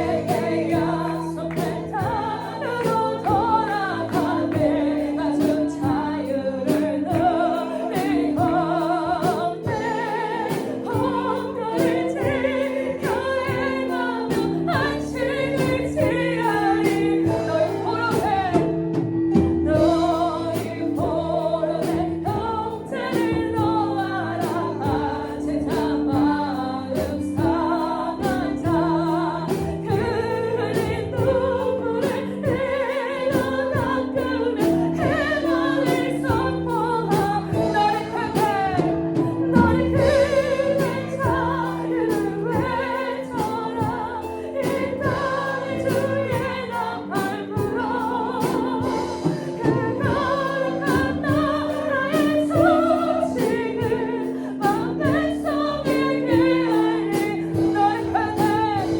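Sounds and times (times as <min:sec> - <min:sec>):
band playing chords and beat: 0:00.0 - 0:58.9
voices singing with vibrato: 0:00.0 - 0:58.9.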